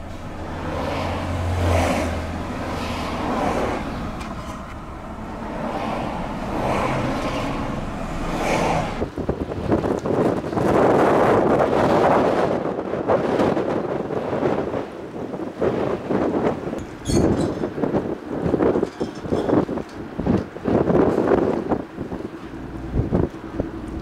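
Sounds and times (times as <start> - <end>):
car road and engine noise: 0.0 - 24.0
wind buffeting microphone: 0.0 - 24.0.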